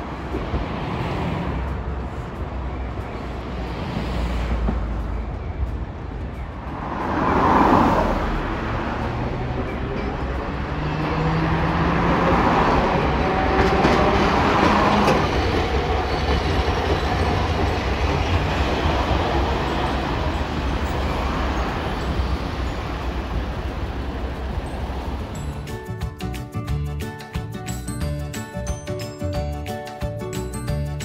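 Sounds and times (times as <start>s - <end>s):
tram wheels rumbling over rails: 0.0s - 26.1s
tram humming: 0.0s - 30.8s.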